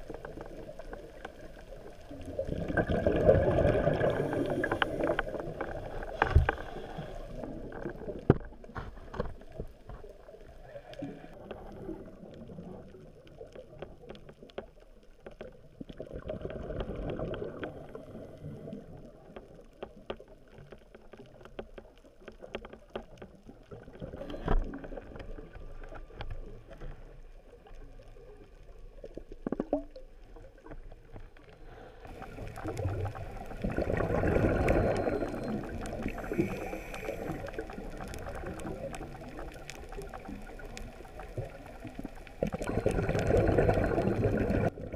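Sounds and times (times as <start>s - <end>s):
muffled underwater rushing water: 0.0s - 44.9s.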